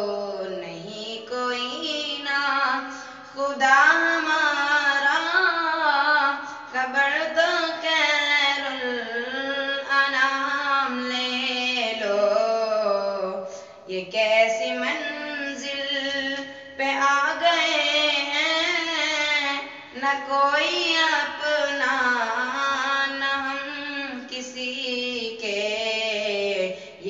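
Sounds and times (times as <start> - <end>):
boy singing unaccompanied: 3.5 - 26.7.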